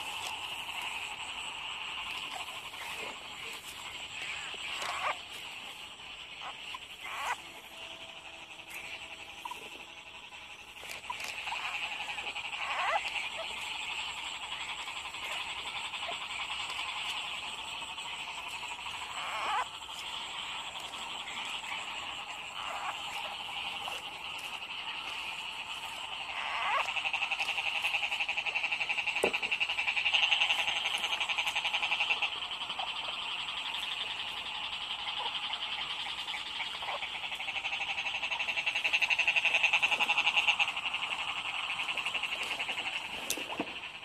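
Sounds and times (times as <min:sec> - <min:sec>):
frogs chorus trilling: 0:00.0 - 0:44.0
low frog croaks: 0:00.0 - 0:44.0.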